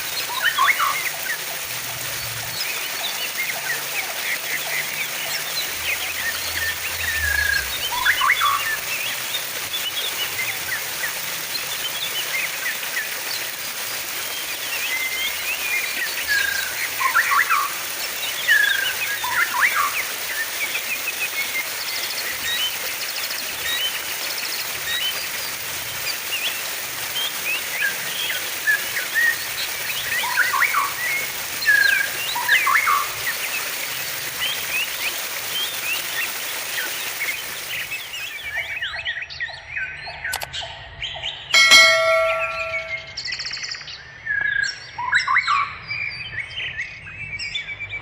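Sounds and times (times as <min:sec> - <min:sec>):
running water: 0:00.0 - 0:39.0, 0:41.6 - 0:43.2.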